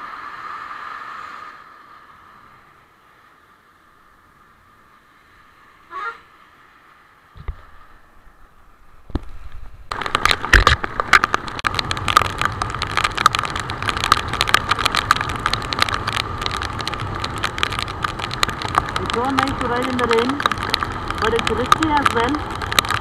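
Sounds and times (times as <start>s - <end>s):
heavy rain hitting camera: 0.0s - 23.0s
wind and road noise: 0.0s - 23.0s.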